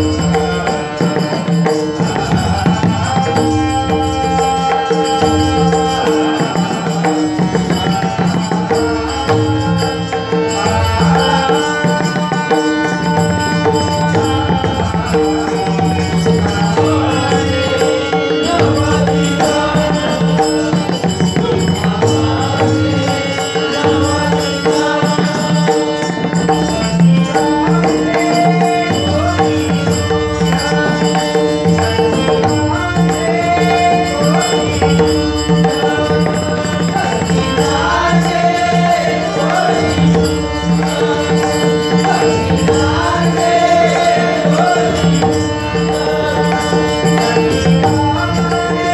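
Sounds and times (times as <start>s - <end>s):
person singing a melody: 0.0s - 48.9s.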